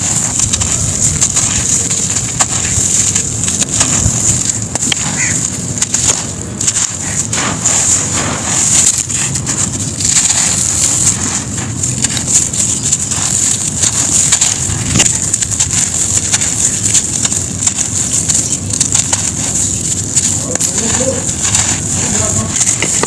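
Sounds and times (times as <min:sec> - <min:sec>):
sand-cement lumps crumbling: 0:00.0 - 0:23.0.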